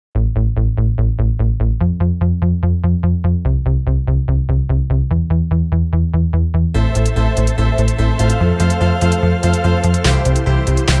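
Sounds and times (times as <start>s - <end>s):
pulsing synthesizer bass line: 0.2s - 11.0s.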